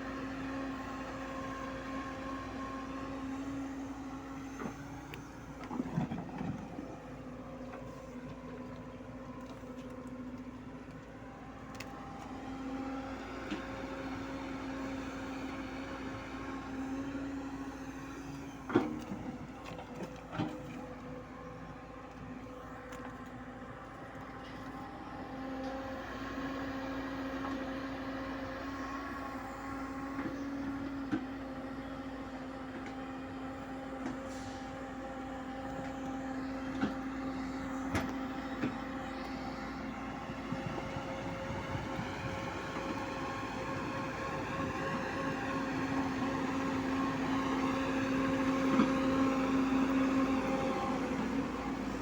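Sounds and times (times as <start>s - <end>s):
excavator running with whine: 0.0s - 52.0s.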